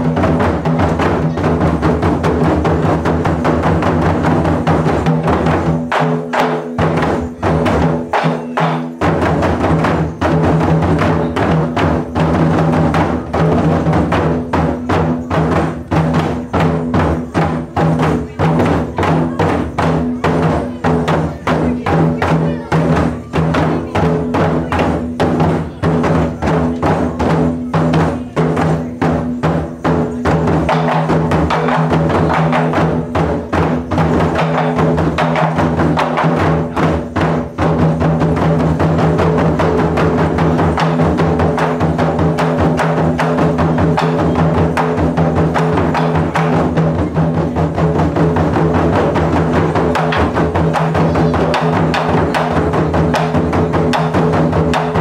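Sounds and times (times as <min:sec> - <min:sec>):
drum ensemble playing: 0:00.0 - 0:55.0.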